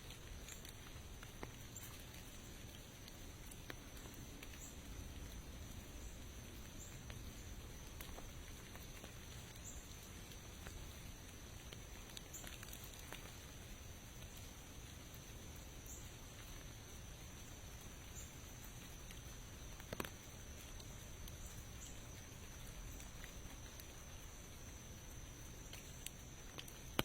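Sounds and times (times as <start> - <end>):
light rain pattering: 0.0 - 27.0.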